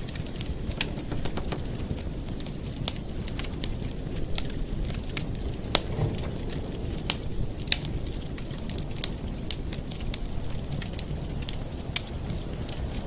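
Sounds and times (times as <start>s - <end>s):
burning wood crackling and popping: 0.0s - 13.0s
campfire burning: 0.0s - 13.0s.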